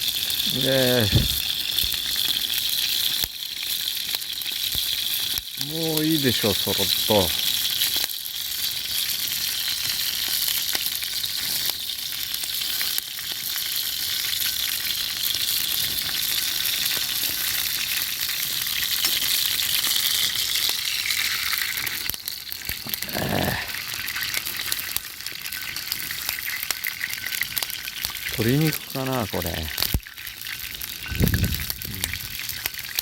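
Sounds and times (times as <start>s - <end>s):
meat sizzling in hot fat: 0.0s - 33.0s.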